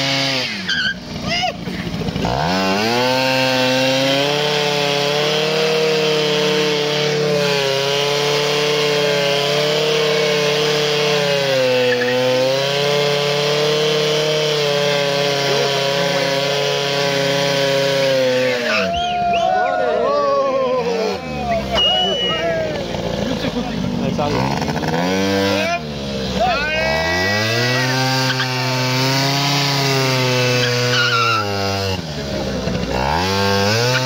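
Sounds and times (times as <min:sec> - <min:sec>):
moped engine revving high: 0:00.0 - 0:19.3, 0:19.9 - 0:34.0.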